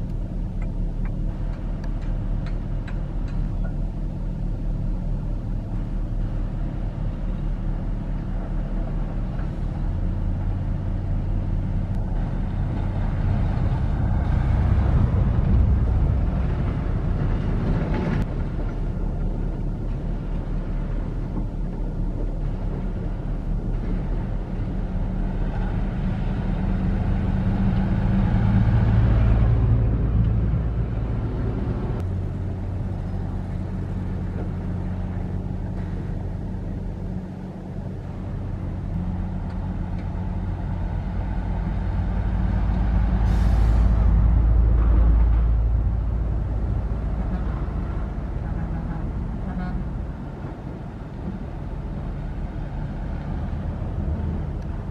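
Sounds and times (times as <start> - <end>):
diesel machinery engine running: 0.0 - 54.9.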